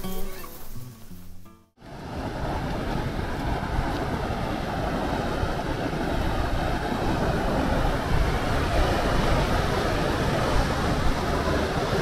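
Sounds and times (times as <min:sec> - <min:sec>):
wind buffeting microphone: 0:01.9 - 0:12.0.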